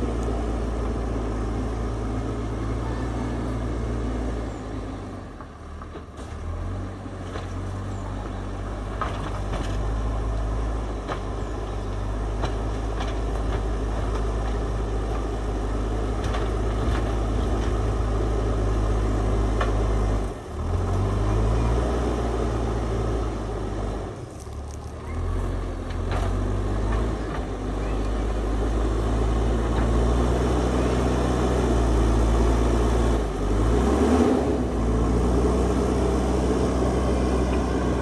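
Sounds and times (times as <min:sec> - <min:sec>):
diesel engine under load: 0:00.0 - 0:38.0.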